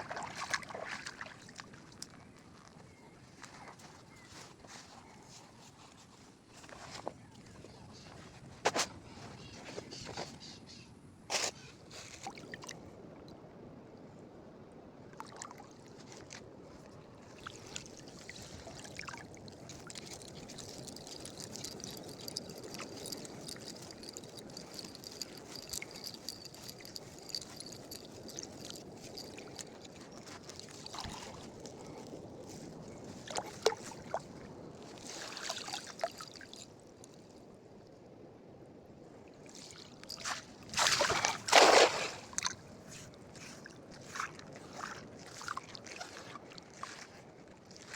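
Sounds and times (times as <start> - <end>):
water trickling and lapping: 0.0 - 10.4, 11.8 - 13.3, 15.1 - 37.6, 39.2 - 47.9.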